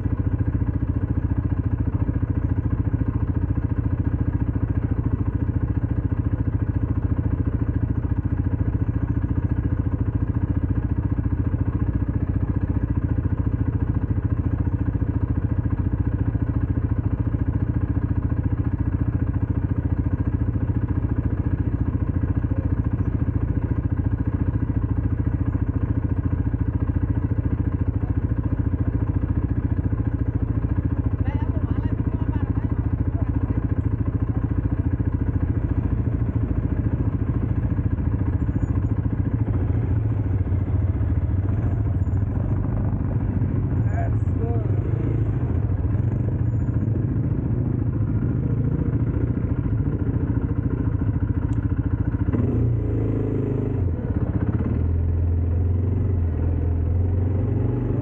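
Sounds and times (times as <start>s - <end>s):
atv engine running steadily: 0.0s - 58.0s.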